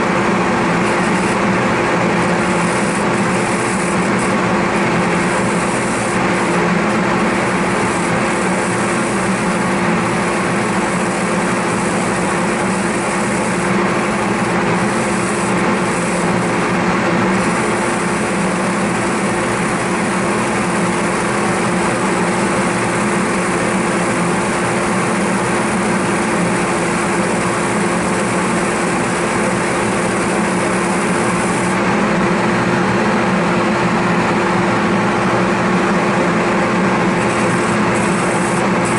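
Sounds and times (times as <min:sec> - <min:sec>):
machine hum with hiss: 0:00.0 - 0:38.9.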